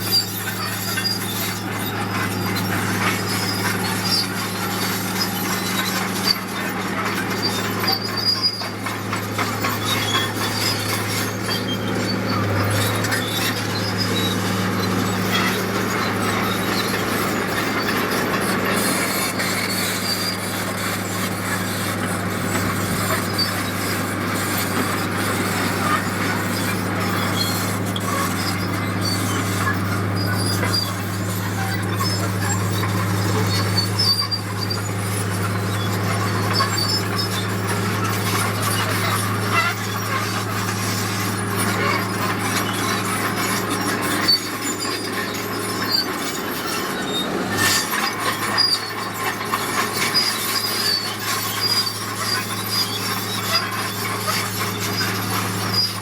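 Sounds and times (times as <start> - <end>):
diesel engine drone: 0.0 - 56.0
machinery clatter: 0.0 - 56.0
short high squeaks: 0.0 - 56.0.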